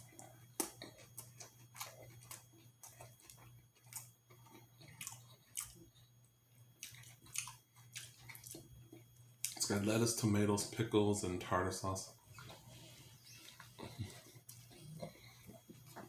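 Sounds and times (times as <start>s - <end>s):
chewing with wet mouth smacks: 0.0s - 9.8s, 12.1s - 16.0s
low steady hum: 0.0s - 16.0s.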